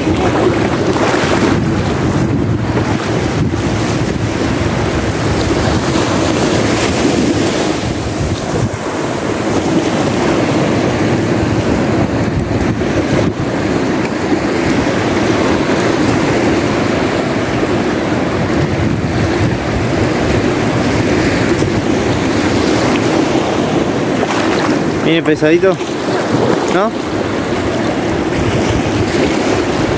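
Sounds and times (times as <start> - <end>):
surf breaking on beach: 0.0 - 29.9
wind rushing over microphone: 0.0 - 29.9.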